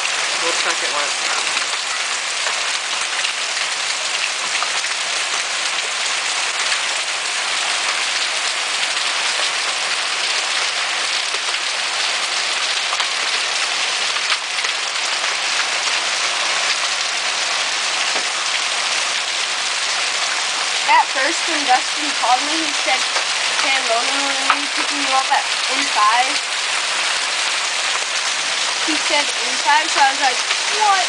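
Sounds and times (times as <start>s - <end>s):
hail and rain pelting down: 0.0s - 31.0s.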